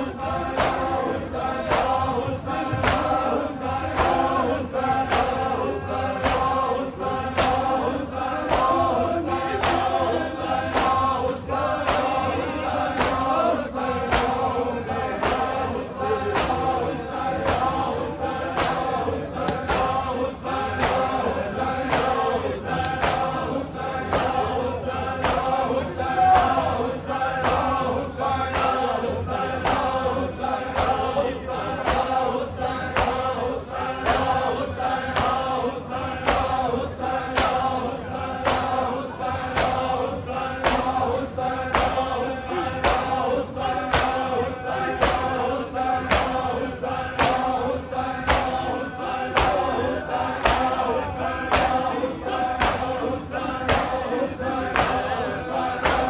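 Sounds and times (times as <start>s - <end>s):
chest-beating slaps: 0.0s - 24.5s, 25.1s - 25.7s, 27.3s - 27.8s, 28.5s - 28.9s, 29.6s - 30.1s, 30.7s - 31.2s, 31.8s - 35.6s, 36.2s - 36.6s, 37.2s - 37.7s, 38.4s - 40.0s, 40.6s - 42.2s, 42.8s - 50.9s, 51.5s - 55.1s, 55.8s - 56.0s
men chanting in unison: 0.0s - 56.0s.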